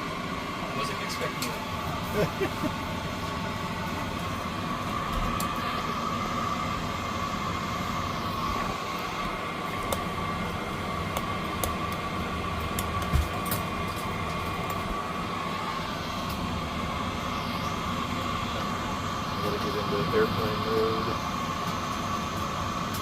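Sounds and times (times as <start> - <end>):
turboprop engine drone: 0.0 - 23.0.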